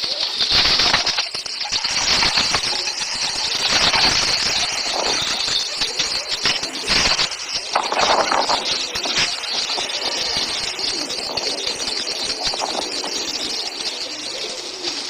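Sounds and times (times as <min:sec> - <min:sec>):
many birds chirping: 0:00.0 - 0:15.0.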